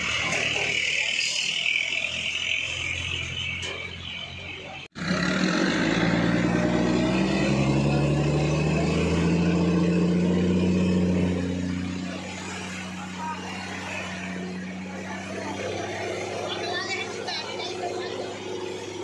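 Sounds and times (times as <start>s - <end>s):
truck diesel engine pulling: 0.0s - 19.0s
vehicle engine rumbling: 0.0s - 19.0s.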